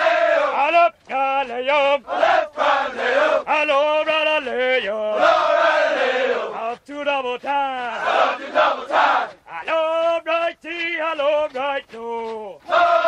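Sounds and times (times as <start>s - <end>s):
men chanting marching cadence: 0.0s - 13.0s.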